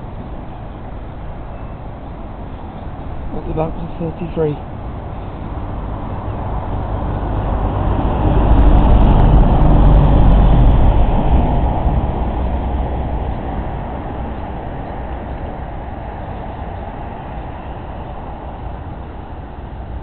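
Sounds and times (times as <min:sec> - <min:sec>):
heavy vehicle passing: 0:02.2 - 0:20.0.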